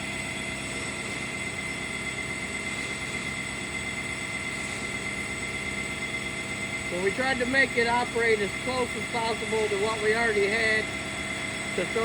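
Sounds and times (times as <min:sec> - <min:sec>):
sawmill machinery hum and whine: 0:00.0 - 0:12.0.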